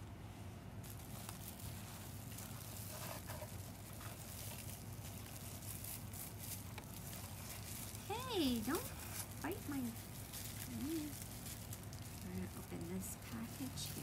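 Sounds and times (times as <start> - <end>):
bubble wrap crinkling: 0.0 - 14.0
low steady hum: 0.0 - 14.0.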